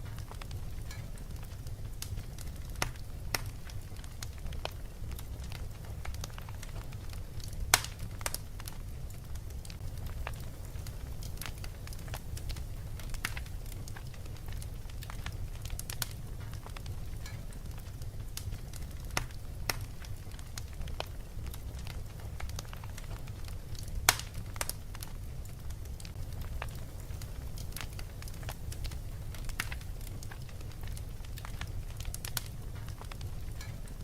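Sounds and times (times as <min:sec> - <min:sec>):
fireplace crackling and popping: 0:00.0 - 0:34.0
low fire rumble: 0:00.0 - 0:34.0.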